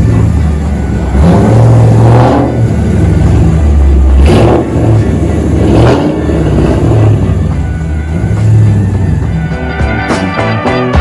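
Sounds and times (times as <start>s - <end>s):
car engine revving hard: 0.0s - 9.4s.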